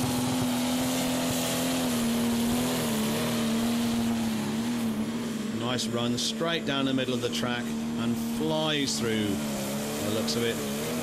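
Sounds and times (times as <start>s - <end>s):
tractor engine at full load: 0.0s - 11.0s.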